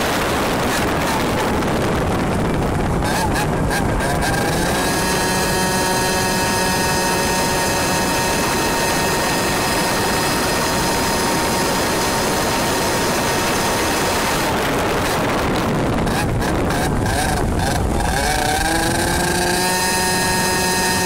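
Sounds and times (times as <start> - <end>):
road noise: 0.0 - 21.0
two-stroke kart engine running: 0.0 - 21.0
wind rush: 0.0 - 21.0.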